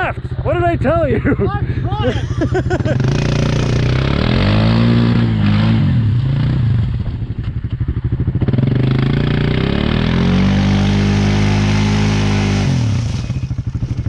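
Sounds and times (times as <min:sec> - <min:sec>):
quad engine revving: 0:00.0 - 0:07.2, 0:08.0 - 0:14.0.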